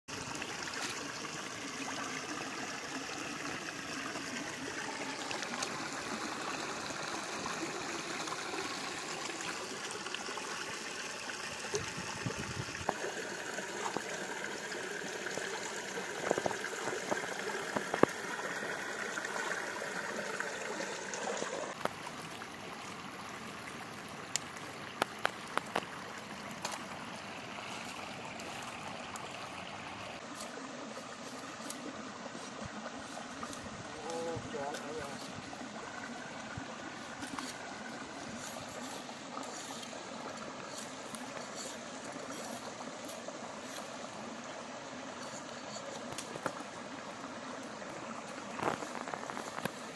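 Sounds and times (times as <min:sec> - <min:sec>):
stream running over rock: 0:00.1 - 0:49.9.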